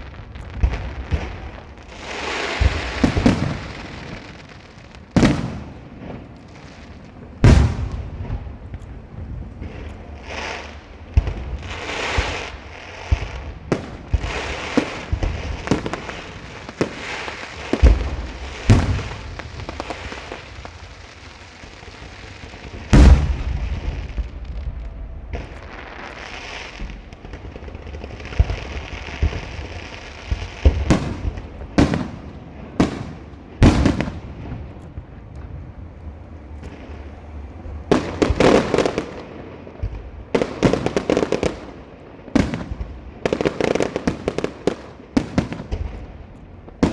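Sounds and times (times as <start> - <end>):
firework bangs: 0.0 - 35.8, 37.9 - 46.9
firecracker crackle: 0.0 - 46.9.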